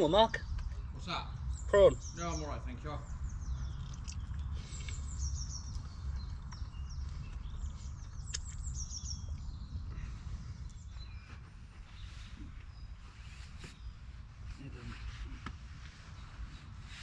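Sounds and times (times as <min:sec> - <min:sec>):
songbirds chirping and trilling: 0:00.0 - 0:17.0
steady low rumble: 0:00.0 - 0:17.0.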